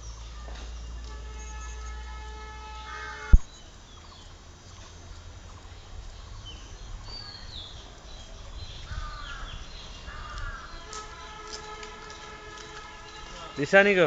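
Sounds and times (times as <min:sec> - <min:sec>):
bird calls and chirps: 0:00.0 - 0:13.8.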